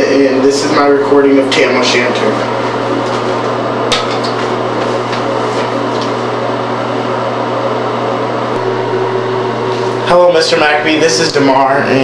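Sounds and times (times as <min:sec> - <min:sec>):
loud hum with hiss: 0:00.0 - 0:12.0.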